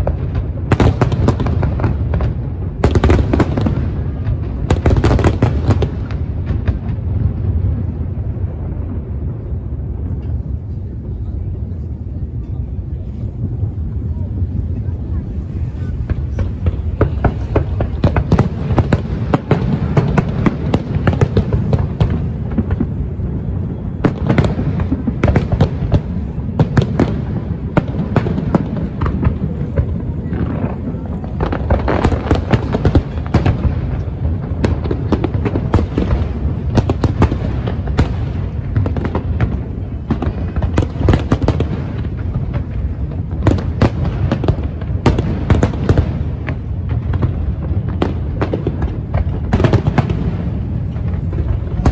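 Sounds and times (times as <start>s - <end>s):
continuous low rumble: 0.0s - 51.9s
fireworks bursting bangs: 0.0s - 51.9s.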